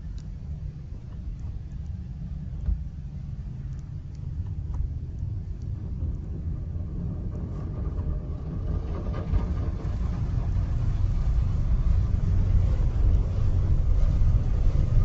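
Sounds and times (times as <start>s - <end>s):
car wash machinery rumble: 0.0s - 15.0s
water spraying on car: 0.3s - 15.0s.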